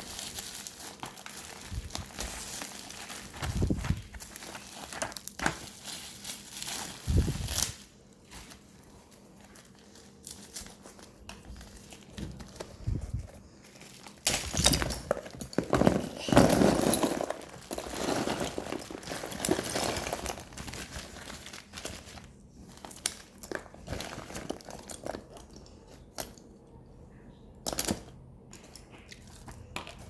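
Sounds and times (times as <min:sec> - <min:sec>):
packaging crinkling: 0:00.0 - 0:25.4.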